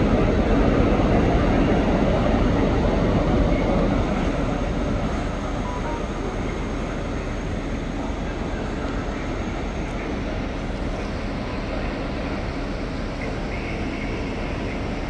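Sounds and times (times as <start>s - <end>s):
station background noise: 0.0s - 15.0s
train engine hum and rumble: 0.0s - 15.0s.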